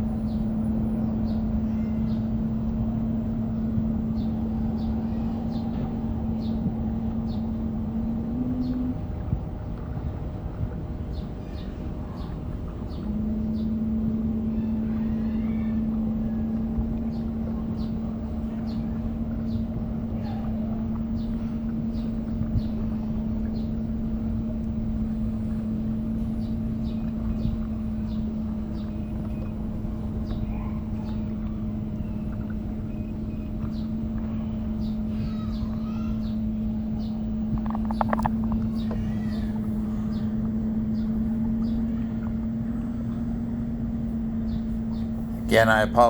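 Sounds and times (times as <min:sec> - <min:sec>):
steady motor hum: 0:00.0 - 0:46.0
water: 0:00.0 - 0:46.0.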